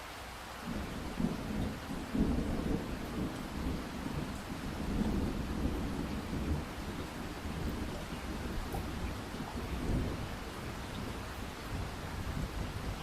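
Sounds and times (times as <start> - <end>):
steady rain falling: 0.0 - 13.0
rolling thunder rumble: 0.6 - 13.0.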